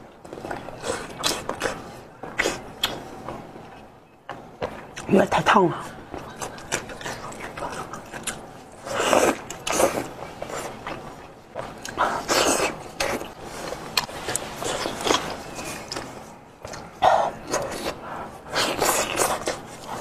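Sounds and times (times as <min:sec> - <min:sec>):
chewing: 0:00.2 - 0:05.1, 0:05.8 - 0:20.0.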